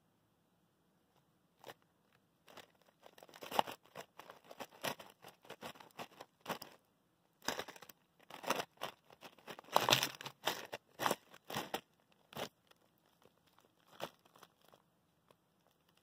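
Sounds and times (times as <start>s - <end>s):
rustling and crinkling: 1.1s - 16.0s.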